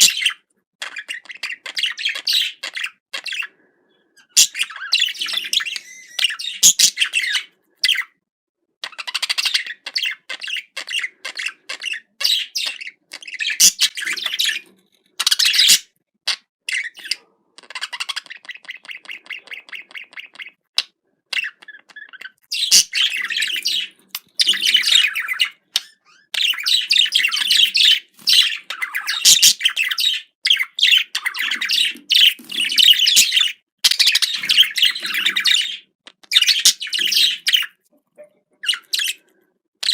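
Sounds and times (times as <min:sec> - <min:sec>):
budgerigar warbling and chattering: 0:00.0 - 0:03.5, 0:04.2 - 0:08.1, 0:08.8 - 0:39.9.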